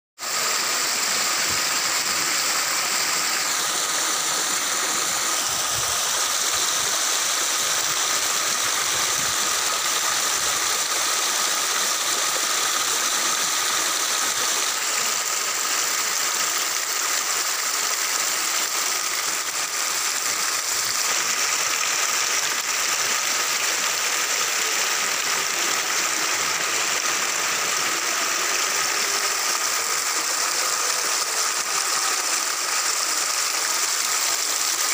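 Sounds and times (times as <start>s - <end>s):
water pouring over weir: 0.2s - 34.9s.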